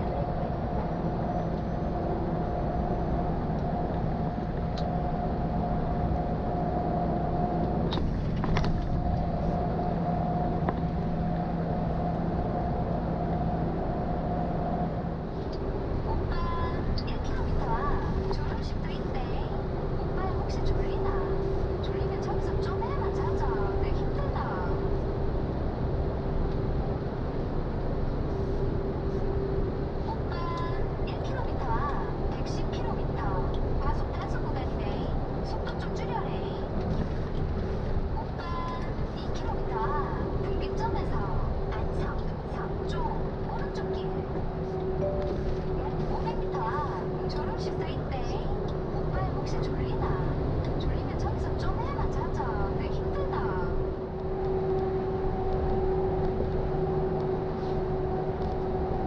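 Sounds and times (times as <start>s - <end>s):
truck engine and road noise drone: 0.0s - 59.0s.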